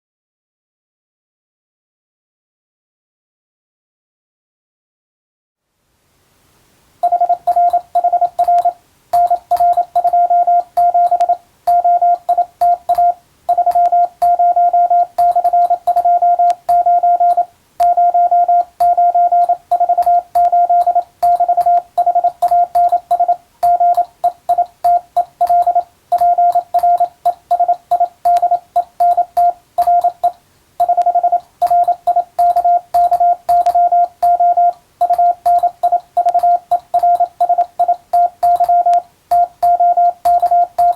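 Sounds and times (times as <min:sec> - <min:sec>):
morse code tone: 0:07.0 - 0:40.9.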